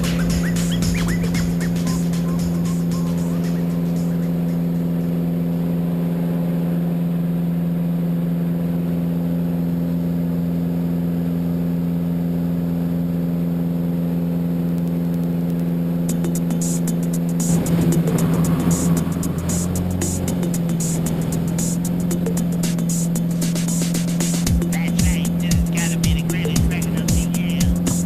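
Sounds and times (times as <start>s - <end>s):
propeller airplane engine hum: 0.0s - 28.0s.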